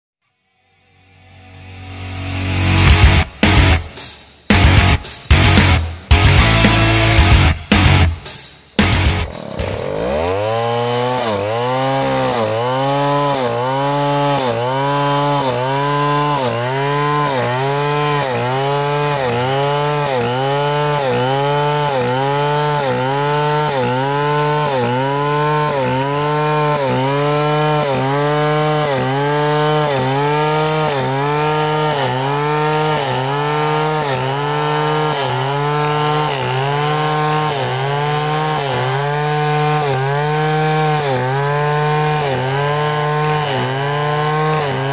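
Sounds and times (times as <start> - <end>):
chainsaw cutting log: 2.8 - 44.9.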